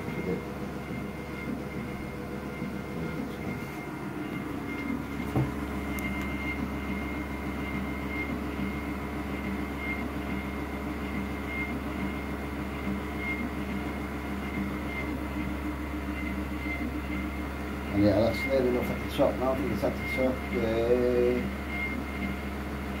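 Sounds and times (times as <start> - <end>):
incline motor: 0.0 - 23.0
treadmill motor hum and whine: 0.0 - 23.0.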